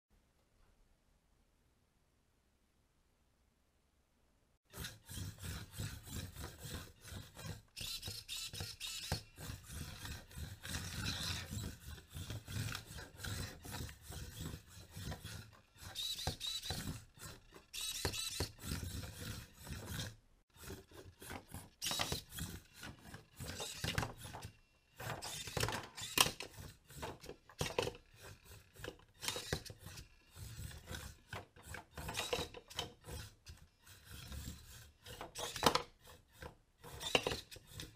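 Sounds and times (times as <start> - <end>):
plastic scraping on wood: 4.7 - 37.9
small drive motors whirring: 4.7 - 37.9.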